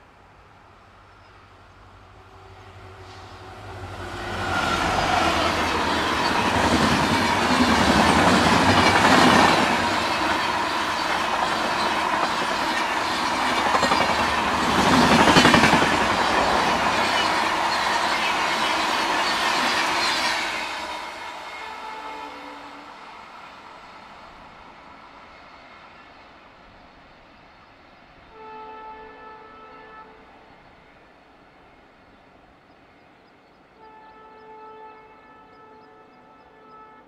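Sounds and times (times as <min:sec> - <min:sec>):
train passing at high speed: 0:00.0 - 0:37.0.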